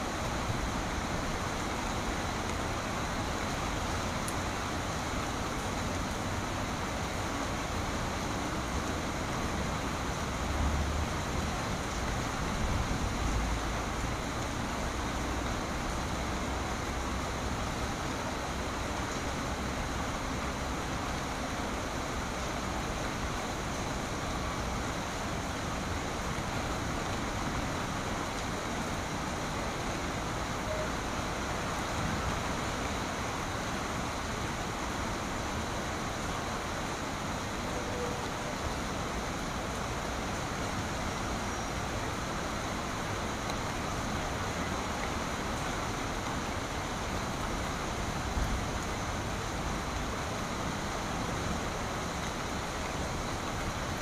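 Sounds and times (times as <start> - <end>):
rain falling on tree leaves: 0.0 - 54.0.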